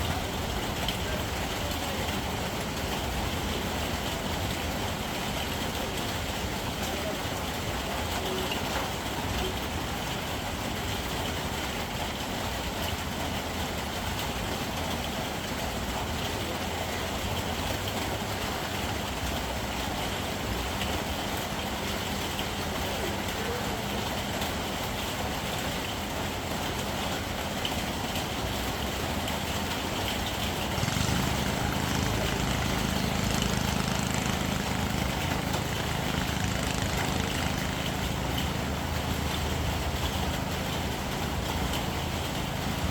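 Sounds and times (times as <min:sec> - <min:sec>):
constant hiss: 0:00.0 - 0:42.9
engine running steadily: 0:00.0 - 0:42.9.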